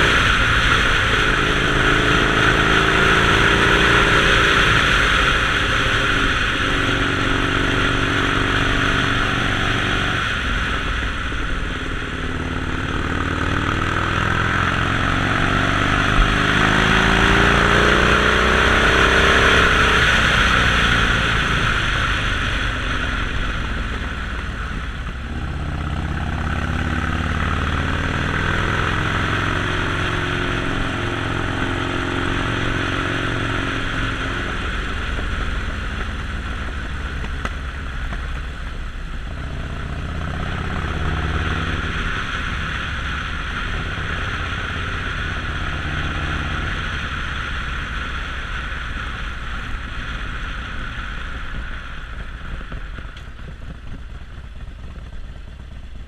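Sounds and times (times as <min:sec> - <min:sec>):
motorcycle engine revving: 0:00.0 - 0:56.0
riding wind rush: 0:00.0 - 0:56.0.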